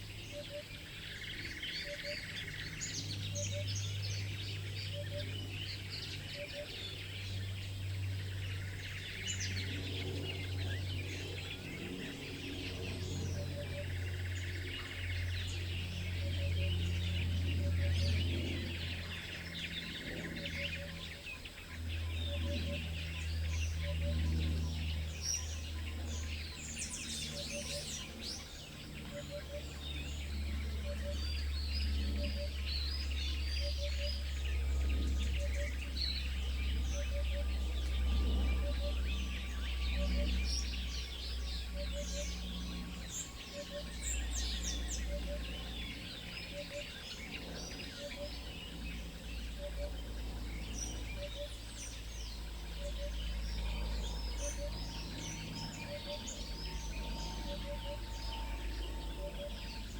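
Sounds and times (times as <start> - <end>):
small birds chirping: 0.0 - 59.9
steady low rumble: 0.0 - 59.9.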